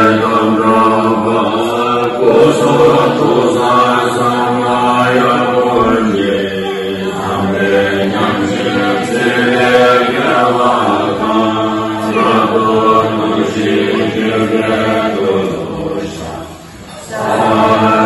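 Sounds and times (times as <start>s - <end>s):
group chanting in unison: 0.0s - 18.0s.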